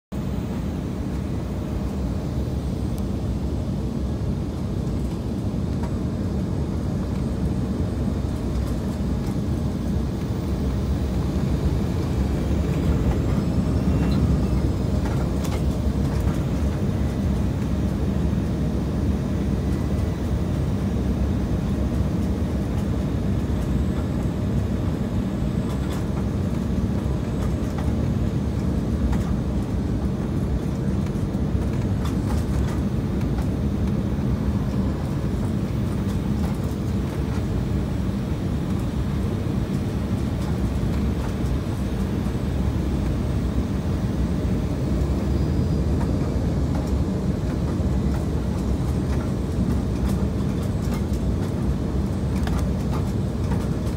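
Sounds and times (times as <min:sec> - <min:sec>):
jet engines rumbling in cabin: 0:00.1 - 0:53.9.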